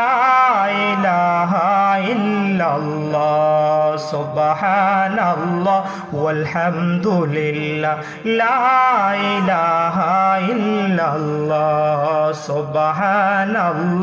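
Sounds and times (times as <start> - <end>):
man chanting into microphone: 0.0 - 14.0.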